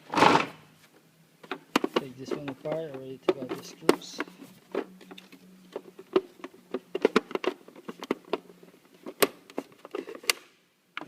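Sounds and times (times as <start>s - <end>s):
plastic clicks and knocks: 1.4s - 10.4s.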